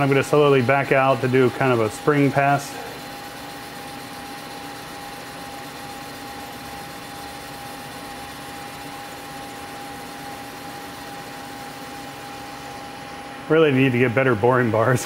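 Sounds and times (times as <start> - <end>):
lathe cutting hiss: 0.0 - 15.0
lathe machine hum: 0.0 - 15.0.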